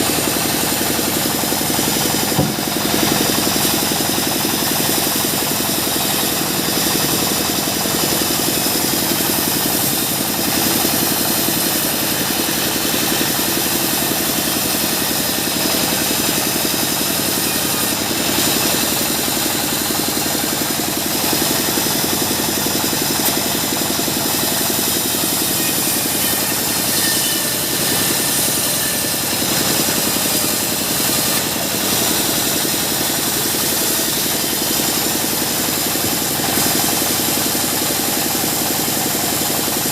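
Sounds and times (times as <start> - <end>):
bandsaw machinery running: 0.0 - 39.9.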